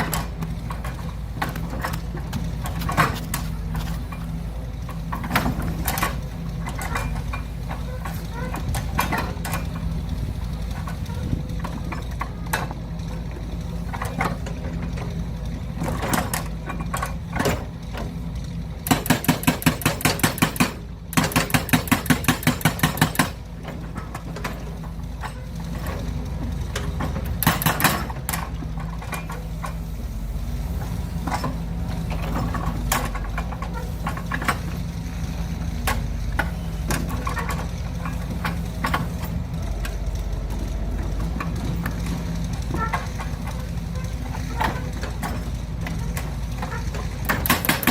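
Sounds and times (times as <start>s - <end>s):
excavator engine humming: 0.0s - 47.9s.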